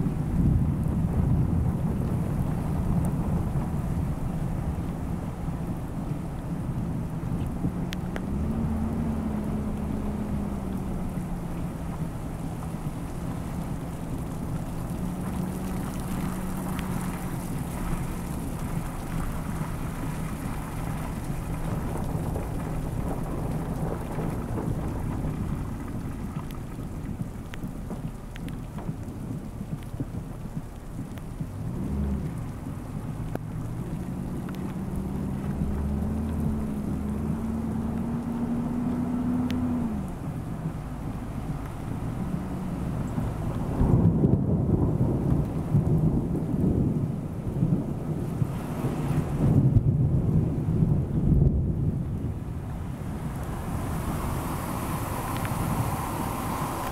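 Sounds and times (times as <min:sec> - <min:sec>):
low engine hum: 0:00.0 - 0:56.9
steady rain: 0:00.0 - 0:56.9
water running along gutter: 0:00.0 - 0:56.9.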